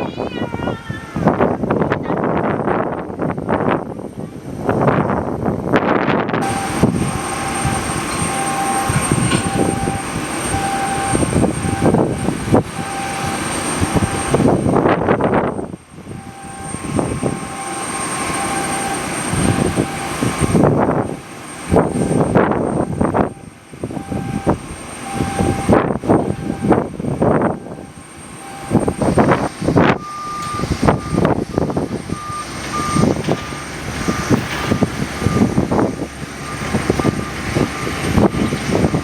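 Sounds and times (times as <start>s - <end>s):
aircraft engines whining: 0.0s - 39.0s
wind buffeting microphone: 0.0s - 39.0s.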